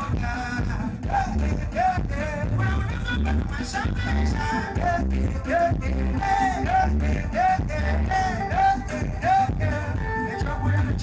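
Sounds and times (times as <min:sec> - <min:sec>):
bass-heavy beat: 0:00.0 - 0:11.0
sung melody: 0:00.0 - 0:11.0.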